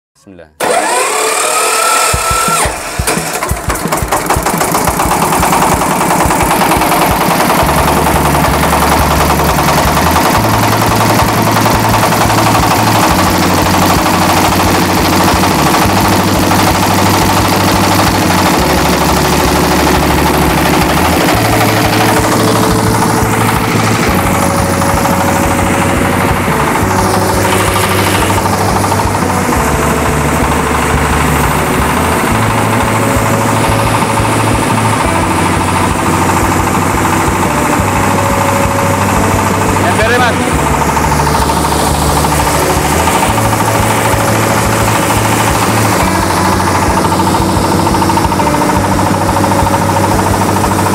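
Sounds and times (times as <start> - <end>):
diesel engine chugging: 0.6 - 50.9.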